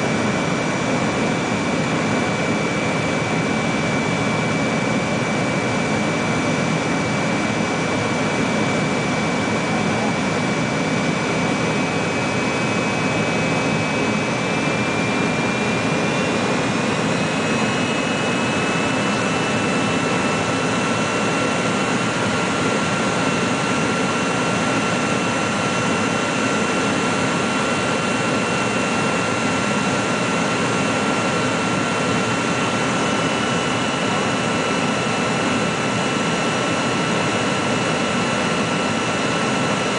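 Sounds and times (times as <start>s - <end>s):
airflow roar in aircraft cabin: 0.0s - 39.9s
high jet engine whine: 0.0s - 39.9s
lower engine whine: 0.0s - 39.9s.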